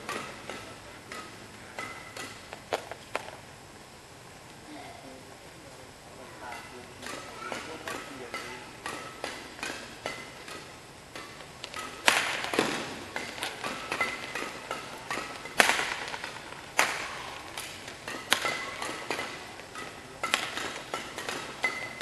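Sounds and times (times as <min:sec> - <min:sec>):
rackets smacking shuttlecock: 0:00.0 - 0:03.4, 0:06.5 - 0:22.0.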